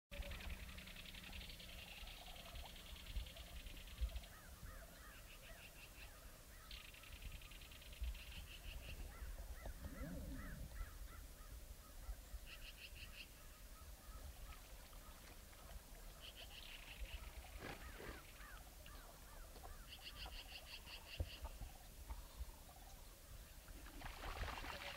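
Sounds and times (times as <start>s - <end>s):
low bird call: 0.2s - 15.3s, 16.1s - 23.0s
birds trilling and chirping: 0.2s - 24.9s.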